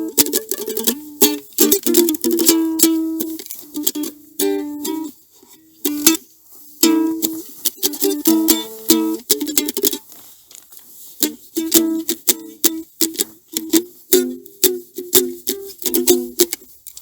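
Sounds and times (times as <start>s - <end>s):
plucked string instrument strumming: 0.0s - 10.3s, 10.9s - 17.0s.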